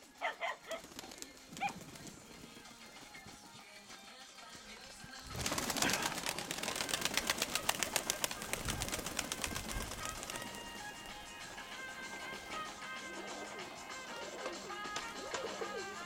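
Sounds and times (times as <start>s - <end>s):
pigeons flapping wings: 0.4s - 3.6s, 4.8s - 16.0s.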